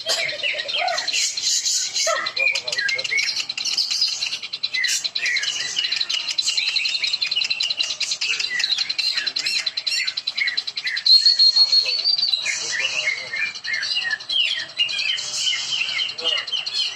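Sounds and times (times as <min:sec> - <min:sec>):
songbirds chirping and trilling: 0:00.0 - 0:16.9.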